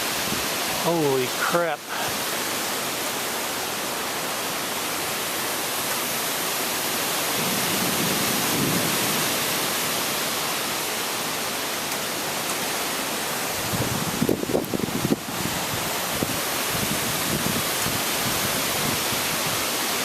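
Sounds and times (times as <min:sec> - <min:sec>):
storm wind rushing through trees: 0:00.0 - 0:20.0.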